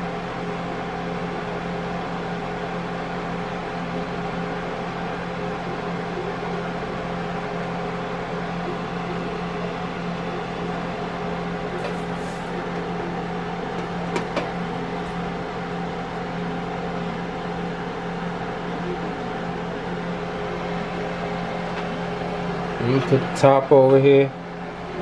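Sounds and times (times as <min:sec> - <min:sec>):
deep fryer hum: 0:00.0 - 0:25.0.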